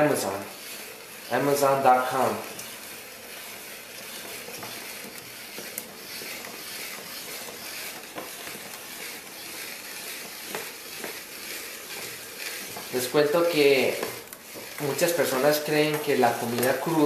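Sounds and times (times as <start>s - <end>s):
spiralizer slicing hiss: 0.0s - 17.0s.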